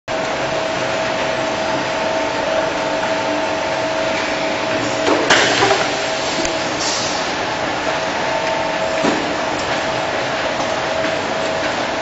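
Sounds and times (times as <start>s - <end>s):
machinery hum and whine: 0.1s - 12.0s.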